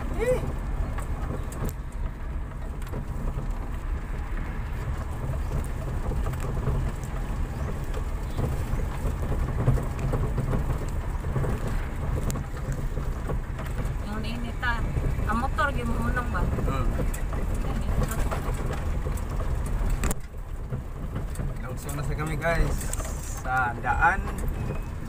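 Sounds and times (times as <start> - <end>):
engine and tyres rumbling: 0.0 - 25.0
light rattles and knocks: 0.0 - 25.0.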